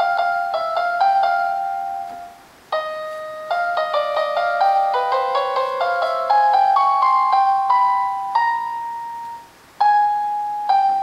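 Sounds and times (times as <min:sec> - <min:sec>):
synthesized piano melody: 0:00.0 - 0:11.0.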